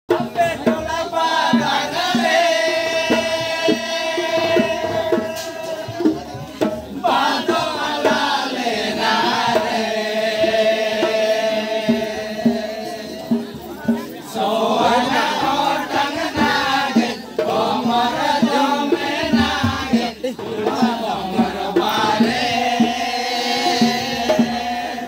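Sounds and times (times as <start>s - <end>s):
barrel drum beats: 0.1s - 25.0s
group singing folk song: 0.1s - 25.0s.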